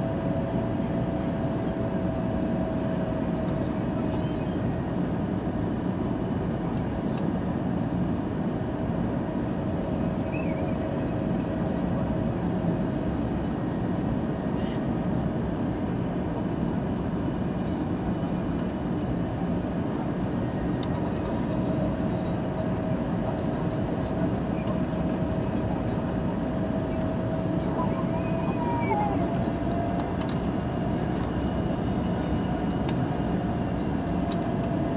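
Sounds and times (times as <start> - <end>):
airliner engines droning: 0.0 - 34.9.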